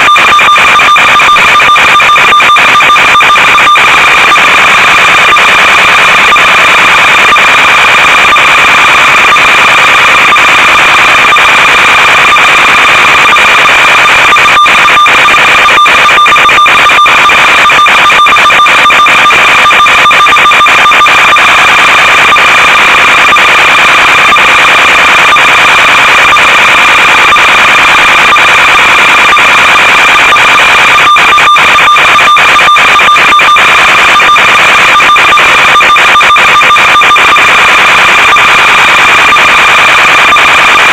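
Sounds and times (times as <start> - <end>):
harsh high-pitched buzz: 0.0 - 40.9.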